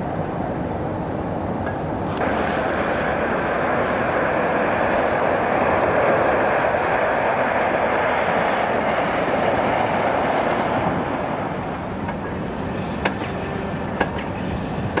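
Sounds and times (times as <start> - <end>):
train passing: 0.0 - 15.0.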